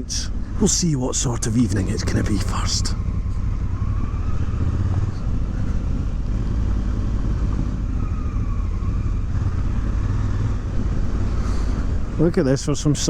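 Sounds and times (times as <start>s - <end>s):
motorcycle engine running: 0.3s - 13.0s.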